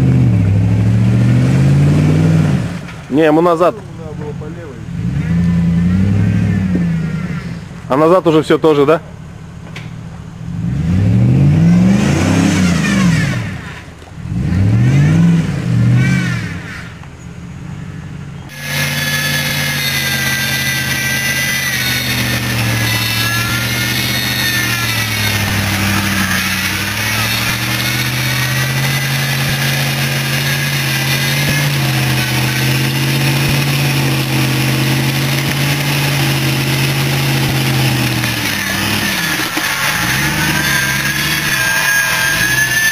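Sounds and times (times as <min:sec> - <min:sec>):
car engine revving: 0:00.0 - 0:42.9
high-revving engine drone: 0:00.0 - 0:42.9.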